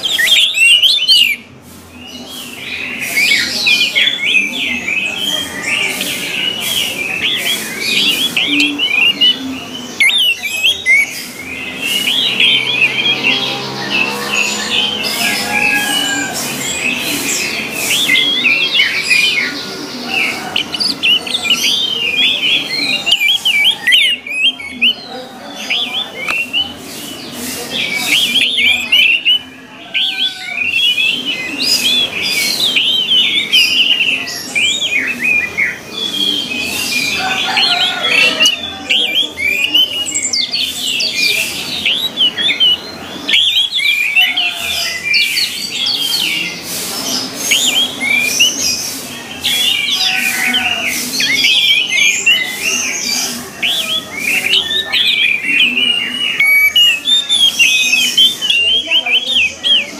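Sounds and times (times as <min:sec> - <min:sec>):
thrush singing whistled notes: 0:00.0 - 0:59.9.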